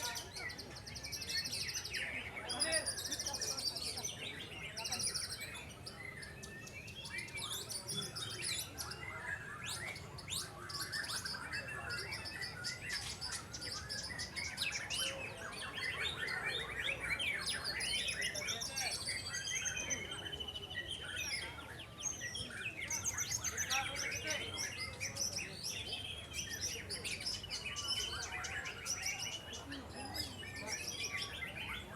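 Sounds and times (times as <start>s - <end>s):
songbirds singing in chorus: 0.0s - 31.9s.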